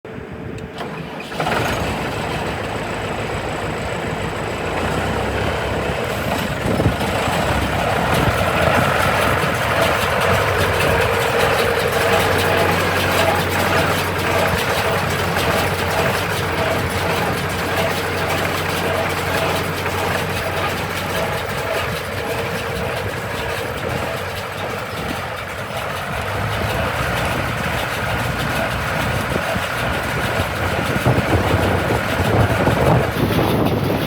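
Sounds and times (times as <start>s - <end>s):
engine starting and running: 0.1s - 34.0s.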